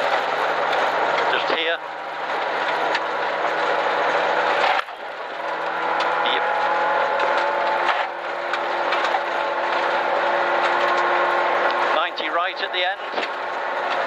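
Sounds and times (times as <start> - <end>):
car engine revving high: 0.0 - 14.0
tyre and road noise: 0.0 - 14.0.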